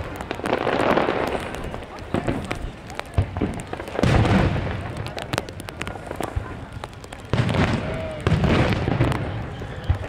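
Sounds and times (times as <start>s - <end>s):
crackling pops: 0.0s - 10.0s
firework booms: 0.0s - 10.0s.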